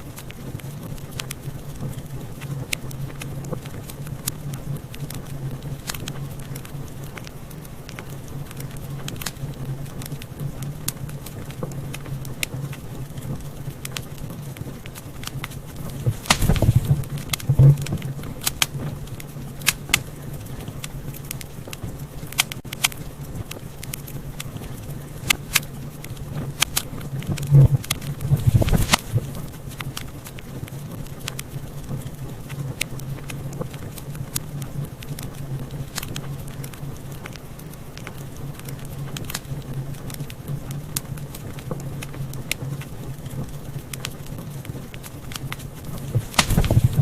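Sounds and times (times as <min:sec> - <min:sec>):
low steady rumble: 0:00.0 - 0:47.0
wood fire crackling: 0:00.0 - 0:47.0.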